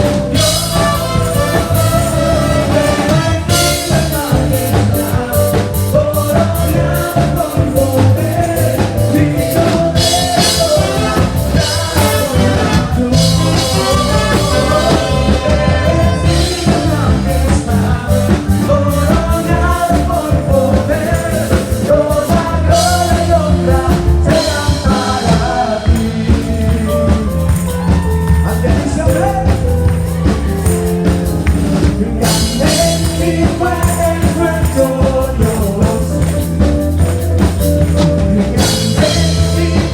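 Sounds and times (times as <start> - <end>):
lead singer singing: 0.0 - 39.9
upbeat rock band playing: 0.0 - 39.9.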